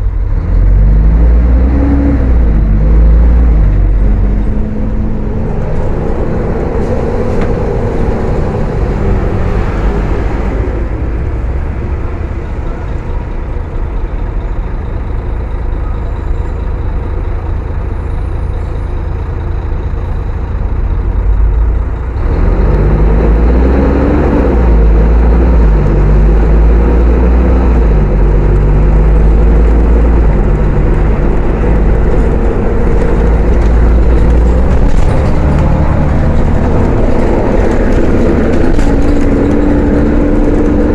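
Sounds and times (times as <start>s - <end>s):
bus diesel engine: 0.0s - 40.9s.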